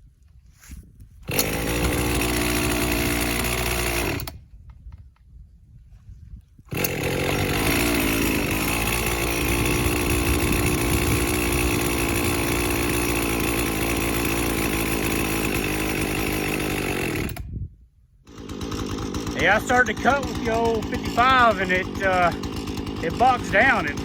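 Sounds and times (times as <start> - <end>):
two-stroke chainsaw running: 1.2 - 4.4, 6.7 - 17.5, 18.2 - 24.0.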